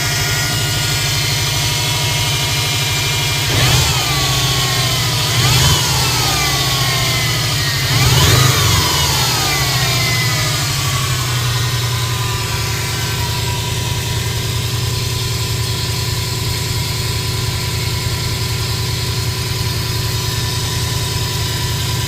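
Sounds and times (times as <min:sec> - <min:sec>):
car engine idling and revving: 0:00.0 - 0:22.0
high engine whine: 0:00.0 - 0:22.0.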